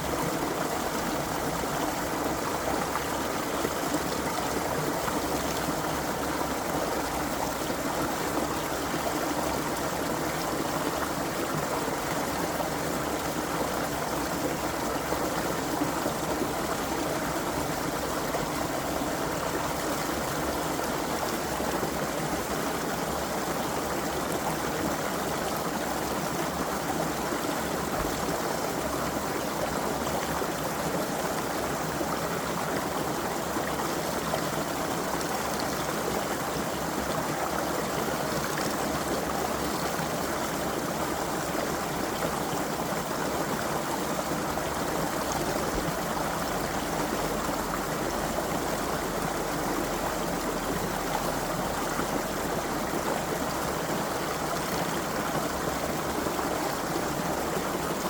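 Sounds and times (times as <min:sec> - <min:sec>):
creek water babbling over stones: 0:00.0 - 0:58.0.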